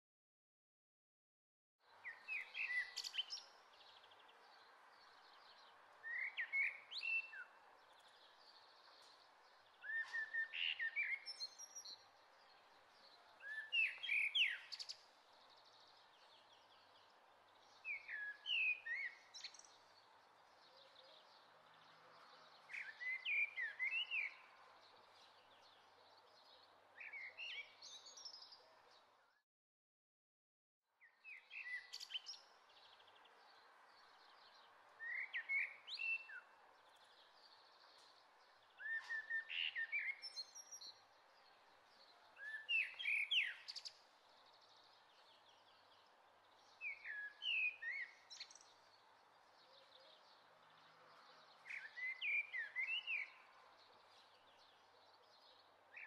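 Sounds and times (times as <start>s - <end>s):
soft outdoor hiss: 1.8s - 29.4s, 31.0s - 56.0s
songbird chirping: 1.8s - 29.4s, 30.9s - 56.0s.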